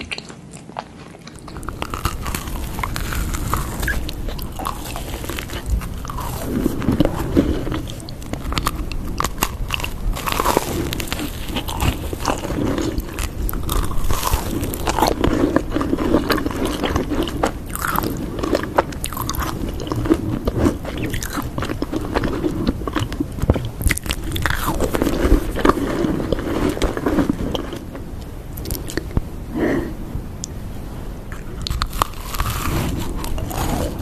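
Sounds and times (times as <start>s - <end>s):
crunchy chewing close up: 0.0s - 28.0s, 31.3s - 34.0s.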